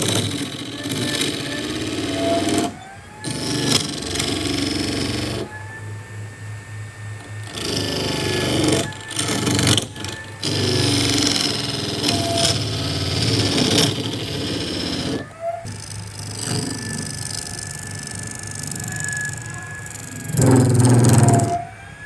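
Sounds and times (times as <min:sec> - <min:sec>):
power tool working wood: 0:00.0 - 0:06.3, 0:07.1 - 0:21.6.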